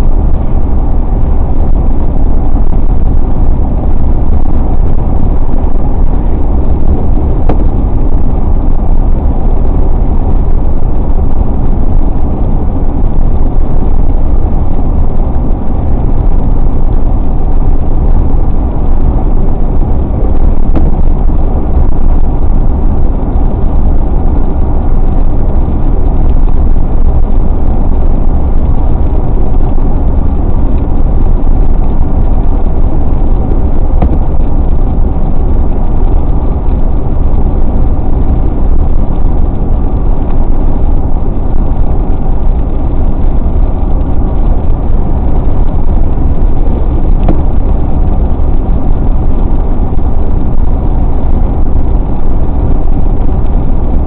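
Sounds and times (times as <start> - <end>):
car driving low rumble: 0.0 - 54.0.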